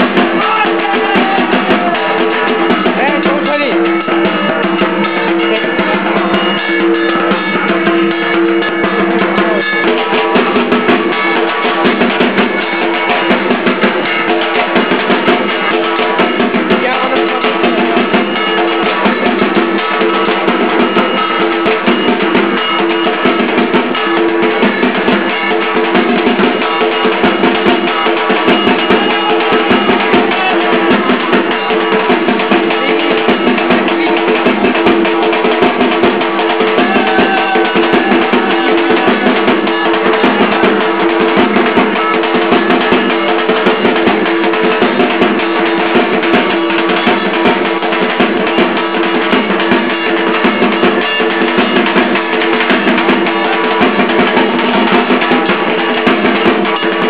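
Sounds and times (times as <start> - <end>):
barrel drums beaten loudly: 0.0 - 57.0.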